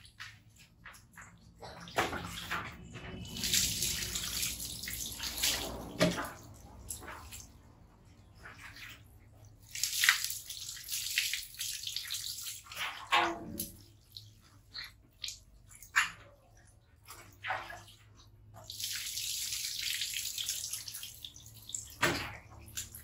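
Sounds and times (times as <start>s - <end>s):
water dripping: 0.0s - 23.0s
water splashing on tiled floor: 0.0s - 23.0s.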